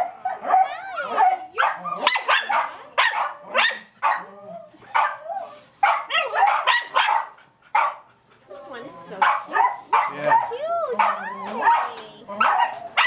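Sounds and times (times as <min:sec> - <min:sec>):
dog barking: 0:00.0 - 0:08.1, 0:09.1 - 0:13.0.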